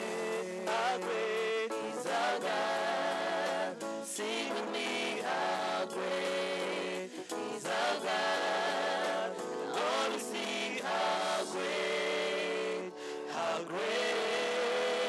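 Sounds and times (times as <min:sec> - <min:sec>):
electronic keyboard chords: 0:00.0 - 0:15.0
man singing a hymn: 0:00.0 - 0:15.0.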